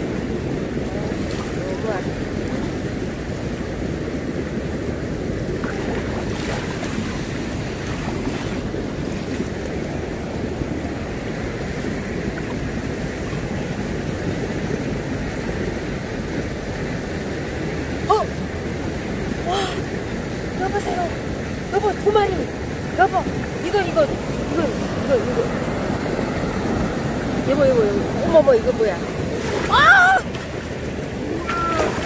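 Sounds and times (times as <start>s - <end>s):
seawater sloshing at water's edge: 0.0s - 32.0s
wind rumbling on microphone: 0.0s - 32.0s.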